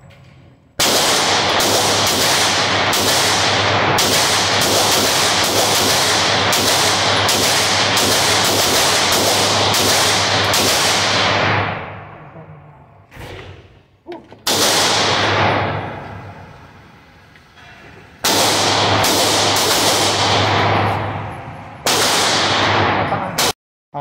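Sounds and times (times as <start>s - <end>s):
gunshots echoing indoors: 0.8s - 17.2s, 18.2s - 23.6s.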